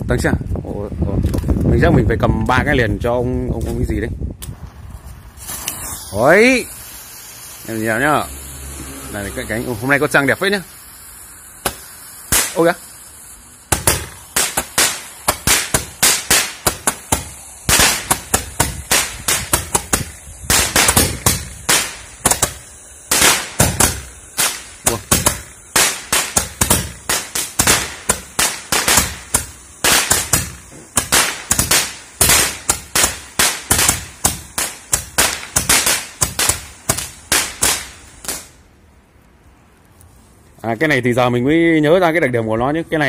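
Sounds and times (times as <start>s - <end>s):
fireworks cracking and popping: 0.1s - 41.9s.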